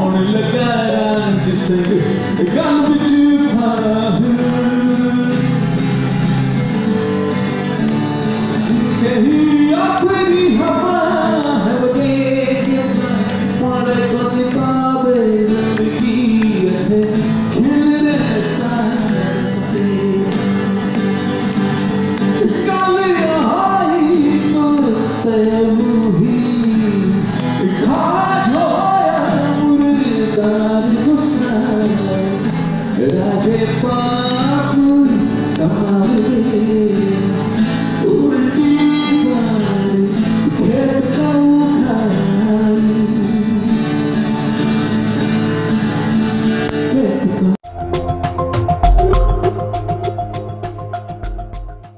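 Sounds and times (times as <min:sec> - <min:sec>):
man singing into a microphone: 0:00.0 - 0:06.1, 0:08.6 - 0:21.2, 0:22.2 - 0:44.3, 0:46.8 - 0:47.7
strummed acoustic guitar: 0:00.0 - 0:51.9.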